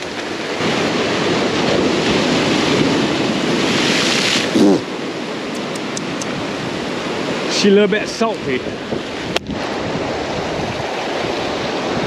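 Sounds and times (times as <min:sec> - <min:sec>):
surf washing against rocks: 0:00.0 - 0:12.0.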